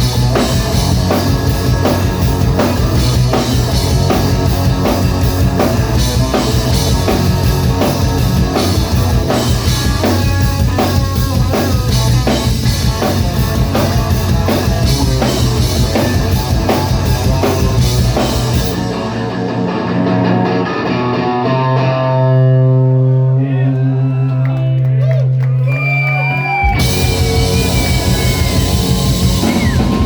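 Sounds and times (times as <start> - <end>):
drum kit: 0.0 - 21.9, 26.6 - 30.0
guitars: 0.0 - 24.7, 25.8 - 30.0.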